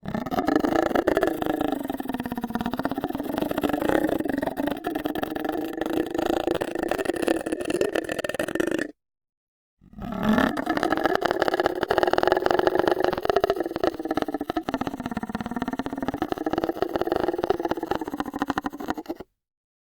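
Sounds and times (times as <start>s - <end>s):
person making rattling buzz: 0.1s - 8.9s, 10.1s - 19.3s.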